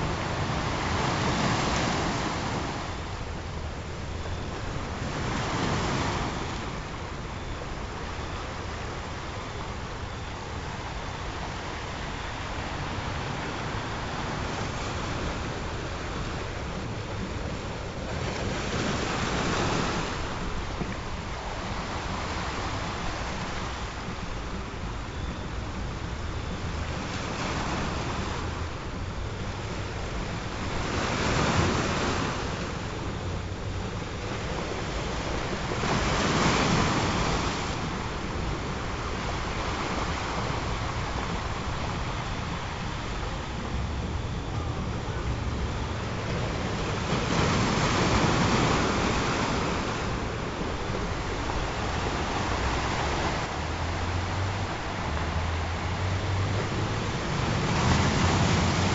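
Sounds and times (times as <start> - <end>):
waves breaking on shore: 0.0 - 58.9.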